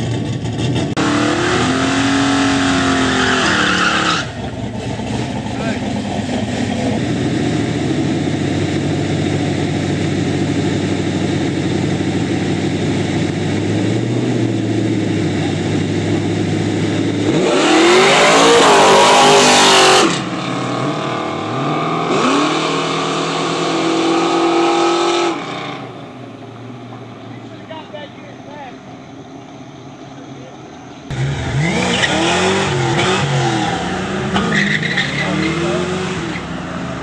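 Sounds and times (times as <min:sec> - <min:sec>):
cars accelerating and revving: 0:00.0 - 0:27.6, 0:31.0 - 0:37.0
car engines idling: 0:00.0 - 0:37.0.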